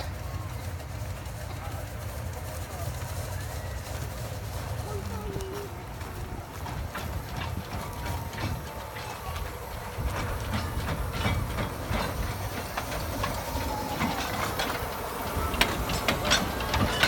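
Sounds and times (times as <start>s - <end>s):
low train rumble: 0.0s - 17.0s
steam hissing: 0.0s - 17.0s
wheels clicking over rail joints: 0.0s - 17.0s.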